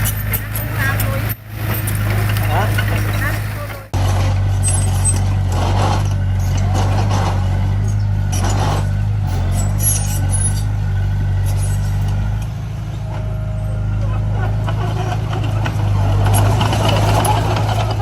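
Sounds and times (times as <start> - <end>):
rushing scraping noise: 0.0 - 12.3, 14.7 - 18.0
heavy machine diesel engine: 0.0 - 18.0.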